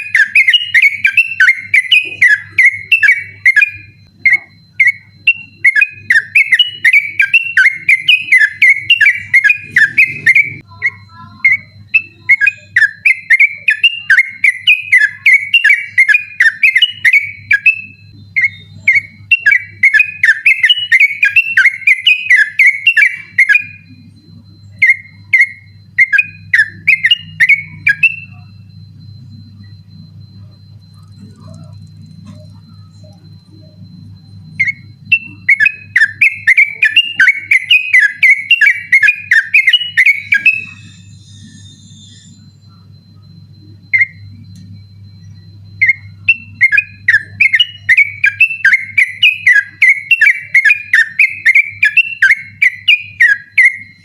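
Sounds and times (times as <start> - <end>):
bulbul singing whistled notes: 0.0 - 54.0
steady low hum: 0.0 - 54.0.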